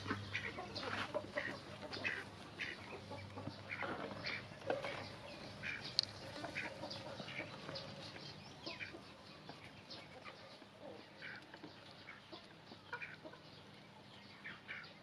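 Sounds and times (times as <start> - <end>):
ducks and chickens calling: 0.0 - 15.0.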